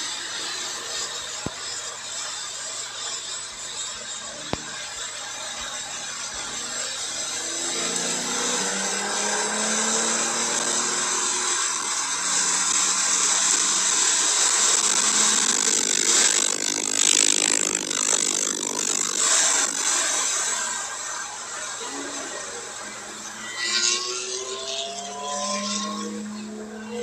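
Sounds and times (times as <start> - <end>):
sports car engine accelerating: 3.7 - 27.0.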